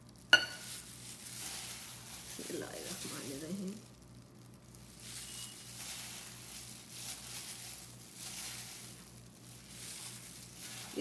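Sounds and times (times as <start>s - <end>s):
plastic gloves crinkling: 0.0s - 11.0s
raw mince squishing: 0.1s - 11.0s.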